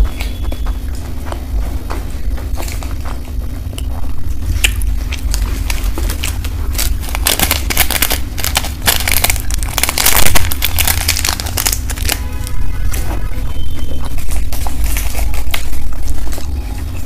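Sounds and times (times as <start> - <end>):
crunching and chewing fried food: 0.0 - 17.0.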